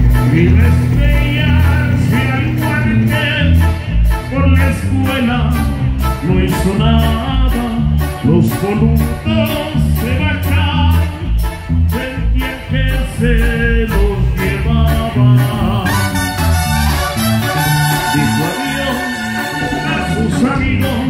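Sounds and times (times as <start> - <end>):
bass line: 0.0 - 21.0
keyboard: 0.0 - 21.0
trumpet and trombones melody: 0.0 - 21.0.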